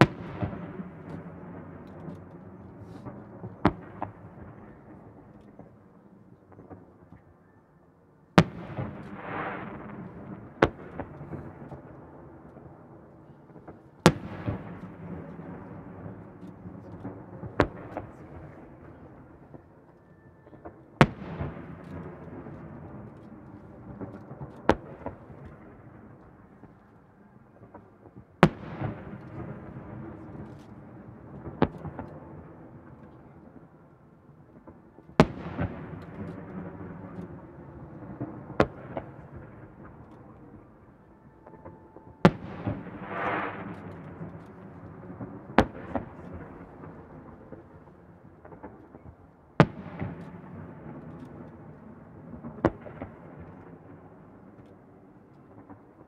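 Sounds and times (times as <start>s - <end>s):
firework bangs with rolling echo: 0.0s - 5.9s, 8.4s - 19.8s, 20.6s - 26.8s, 27.4s - 56.0s.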